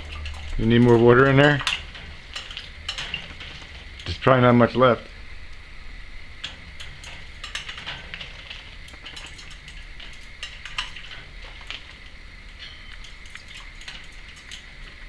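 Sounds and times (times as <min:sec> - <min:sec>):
parrot splashing in water bowl: 0:00.0 - 0:04.2, 0:06.4 - 0:15.0.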